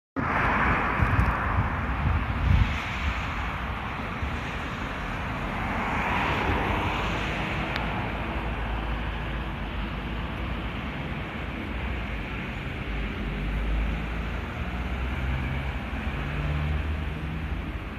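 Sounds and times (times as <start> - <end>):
road traffic: 0.2 - 17.9
vehicle passing: 0.2 - 17.9
wind rumble on microphone: 0.2 - 17.9.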